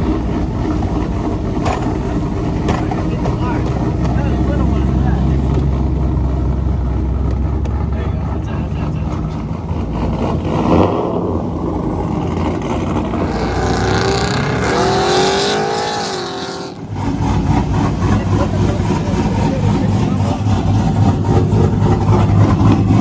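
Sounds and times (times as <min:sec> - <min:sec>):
truck engine rumbling and revving: 0:00.0 - 0:23.0.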